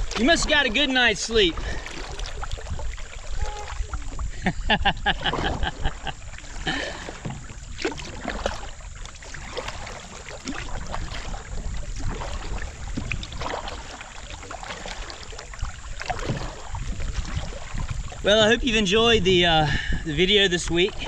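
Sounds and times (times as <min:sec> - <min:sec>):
paddles dipping and splashing: 0:00.0 - 0:21.0
steady low rumble: 0:00.0 - 0:21.0.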